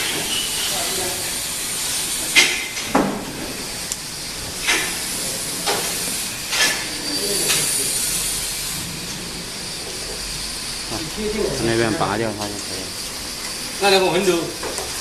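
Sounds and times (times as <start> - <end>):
machine hiss: 0.0 - 15.0.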